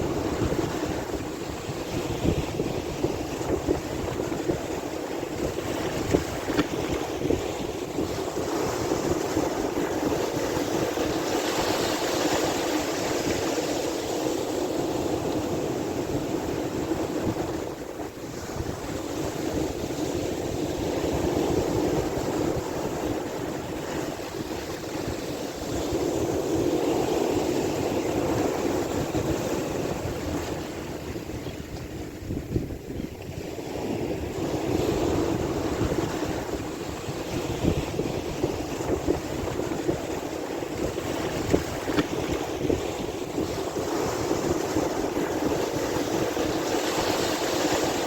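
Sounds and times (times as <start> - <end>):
sea waves washing: 0.0 - 48.0.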